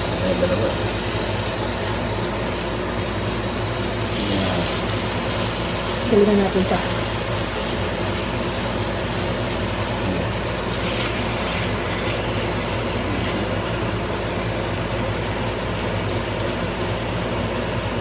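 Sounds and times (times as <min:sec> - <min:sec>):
chicken sizzling in a skillet: 0:00.0 - 0:18.0.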